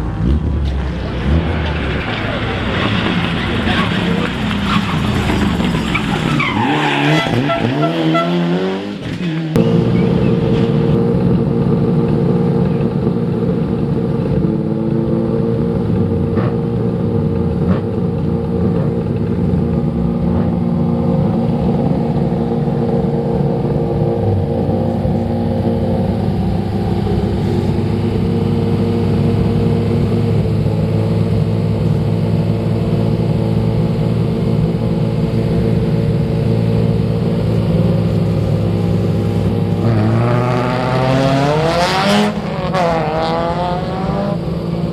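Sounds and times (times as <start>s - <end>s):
rally car engine running: 0.0s - 44.9s.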